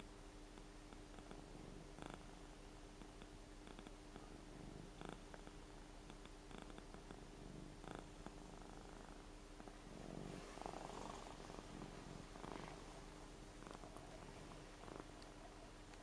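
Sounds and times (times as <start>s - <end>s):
cat snoring softly: 0.6s - 15.8s.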